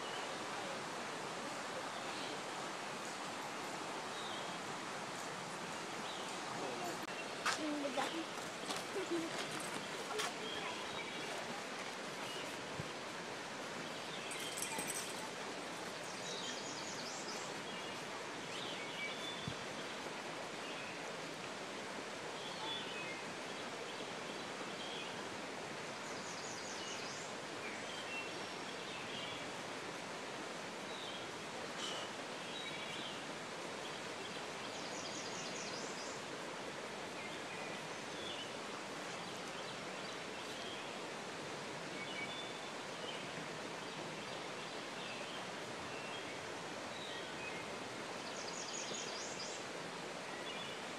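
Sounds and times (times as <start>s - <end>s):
creek water flowing: 0.0s - 50.9s.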